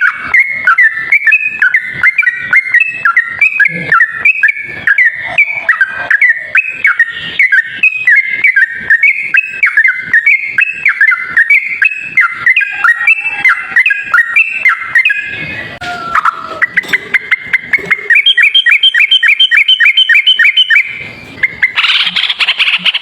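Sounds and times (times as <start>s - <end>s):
bird singing chattering whistles: 0.0s - 23.0s.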